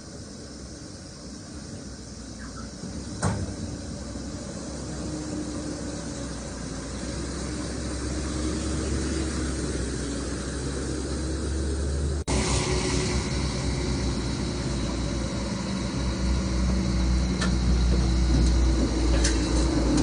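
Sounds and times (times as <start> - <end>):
vehicle road noise and rumble: 0.0 - 20.0.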